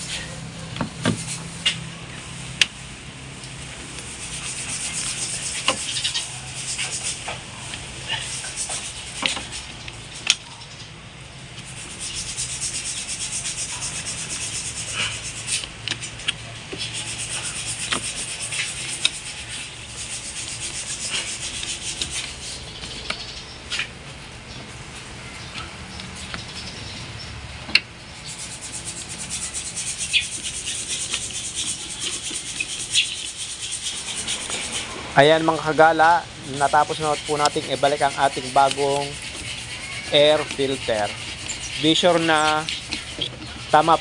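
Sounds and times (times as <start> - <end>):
rubber hose rubbing and scraping: 0.0 - 10.4, 11.5 - 25.1, 28.2 - 44.0.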